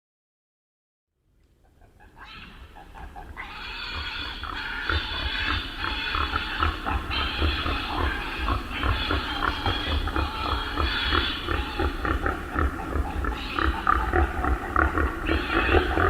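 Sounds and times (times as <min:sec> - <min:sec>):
chorus of animal calls: 0:01.6 - 0:16.0.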